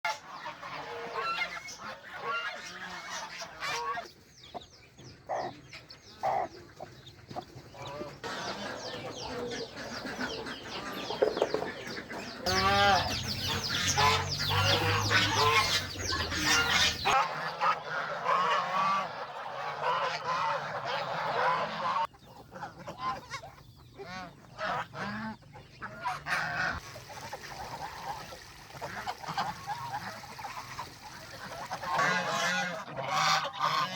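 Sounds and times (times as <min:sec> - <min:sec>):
geese honking: 0:00.1 - 0:04.2, 0:07.8 - 0:33.9
poultry calling: 0:00.1 - 0:33.9.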